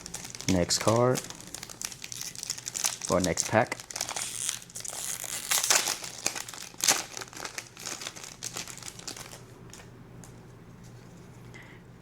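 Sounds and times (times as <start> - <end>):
wrapper tearing open: 0.0 - 9.8
foil wrapper crinkling: 0.0 - 9.9.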